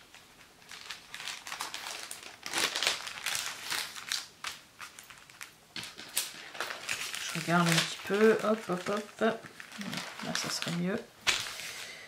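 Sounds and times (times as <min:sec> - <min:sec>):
cellophane crinkling: 0:00.0 - 0:12.0.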